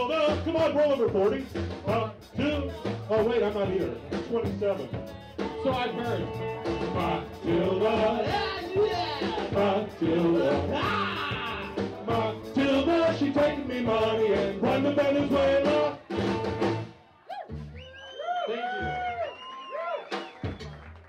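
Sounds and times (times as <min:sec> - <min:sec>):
live band playing: 0:00.0 - 0:18.0, 0:20.0 - 0:21.0.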